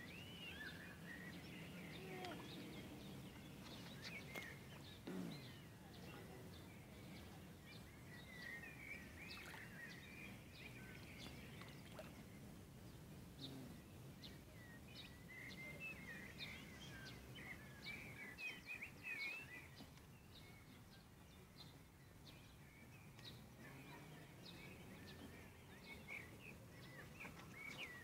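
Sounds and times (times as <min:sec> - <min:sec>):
faint birdsong: 0:00.0 - 0:28.0.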